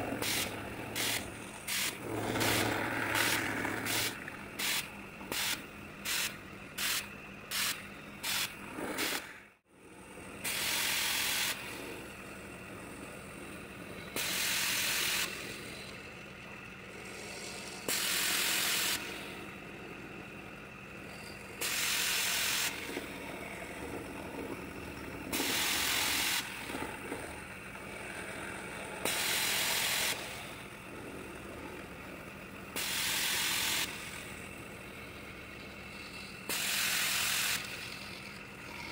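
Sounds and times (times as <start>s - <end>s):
end mill cutting steel: 0.0s - 38.9s
milling machine hum: 0.0s - 38.9s.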